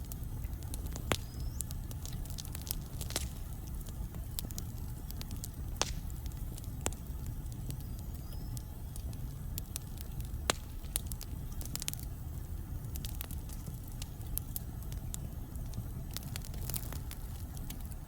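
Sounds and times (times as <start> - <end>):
low rumble of fire: 0.0 - 18.0
wood fire crackling and popping: 0.0 - 18.0.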